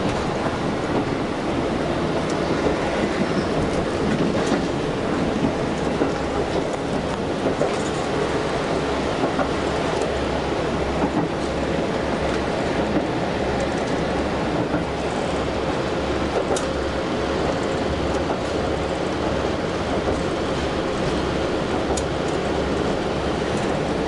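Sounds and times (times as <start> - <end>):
railcar cabin drone and rumble: 0.0 - 24.0.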